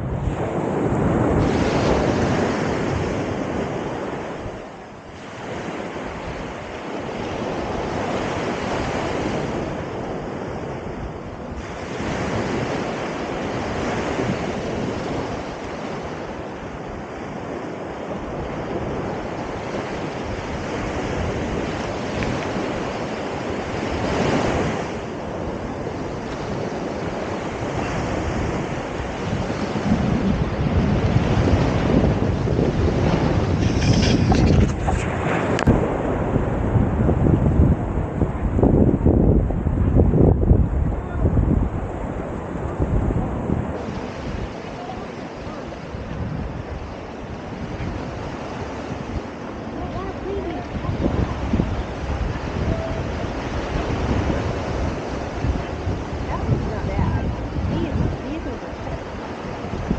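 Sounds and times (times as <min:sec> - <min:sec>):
rushing water: 0:00.0 - 0:59.9
rushing wind: 0:00.0 - 0:59.9
wind buffeting microphone: 0:00.0 - 0:59.9.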